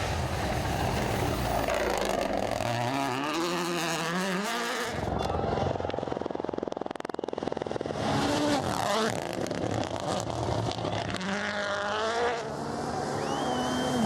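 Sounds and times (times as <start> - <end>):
rally car engine revving: 0.3 - 14.0.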